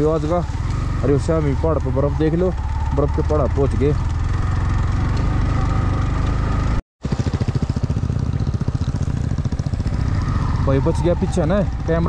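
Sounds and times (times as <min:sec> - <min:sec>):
motorcycle engine firing pulses: 0:00.0 - 0:12.0.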